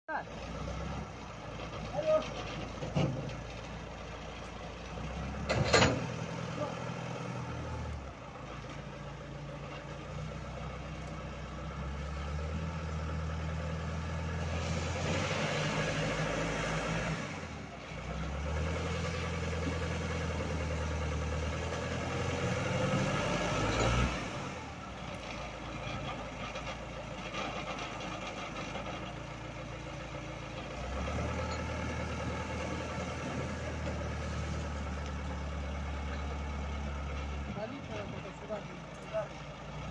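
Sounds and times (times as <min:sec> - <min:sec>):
forklift engine running: 0:00.1 - 0:39.9.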